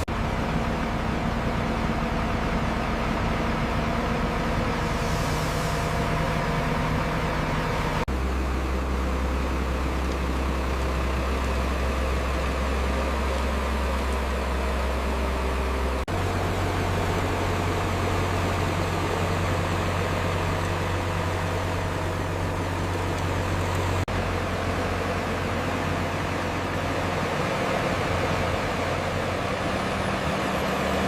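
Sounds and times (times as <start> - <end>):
diesel engine drone: 0.0 - 31.0.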